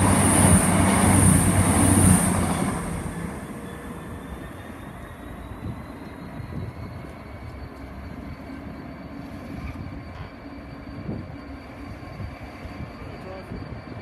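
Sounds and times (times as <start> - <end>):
diesel locomotive engine rumble: 0.0 - 14.0
thin high whine: 0.0 - 14.0.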